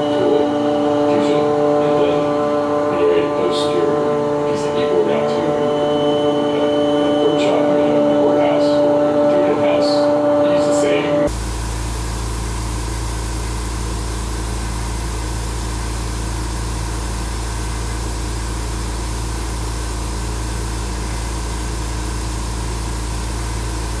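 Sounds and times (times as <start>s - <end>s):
shop machinery hum and hiss: 0.0s - 24.0s.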